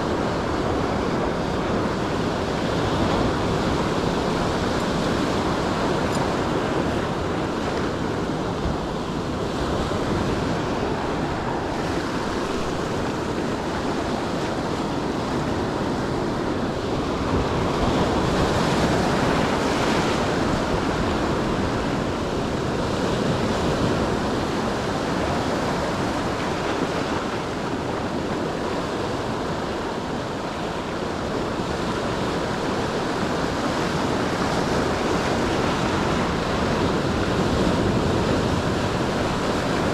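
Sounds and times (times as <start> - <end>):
ocean surf washing ashore: 0.0 - 39.9
wind buffeting microphone: 0.0 - 39.9.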